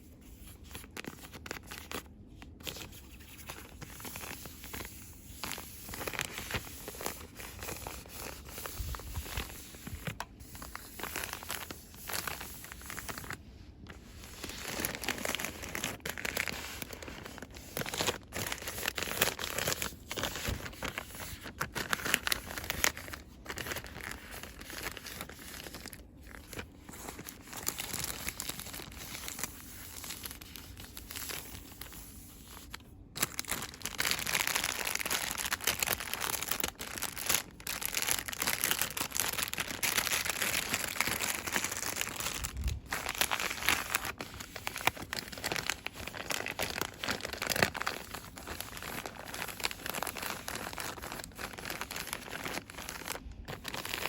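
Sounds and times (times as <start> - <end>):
plastic packaging crinkling: 0.2 - 54.0.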